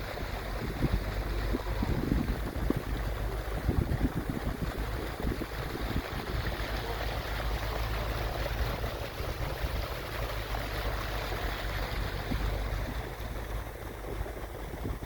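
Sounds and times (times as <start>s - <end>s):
vehicle driving through water: 0.0s - 15.0s
wind on microphone: 0.0s - 15.0s.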